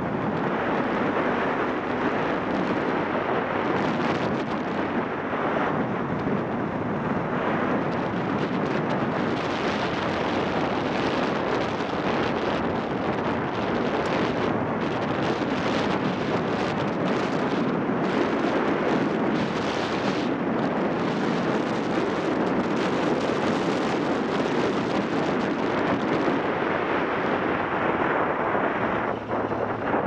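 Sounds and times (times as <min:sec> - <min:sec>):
wind rushing on microphone: 0:00.0 - 0:30.0.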